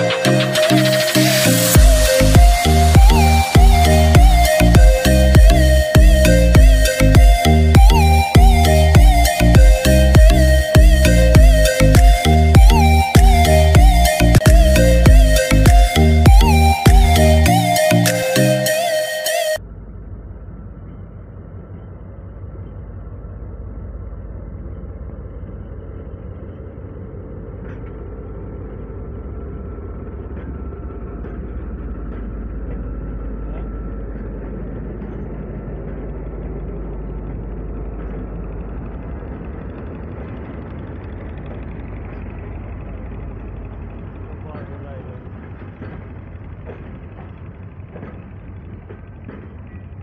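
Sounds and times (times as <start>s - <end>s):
diesel locomotive engine rumble: 0.0s - 50.0s
train wheel noise: 0.0s - 50.0s.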